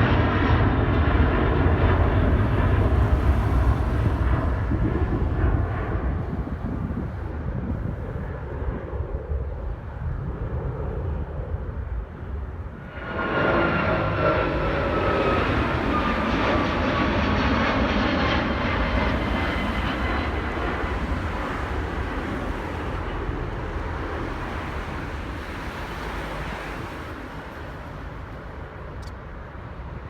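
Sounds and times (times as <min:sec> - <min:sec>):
jet airliner taking off: 0:00.0 - 0:30.0.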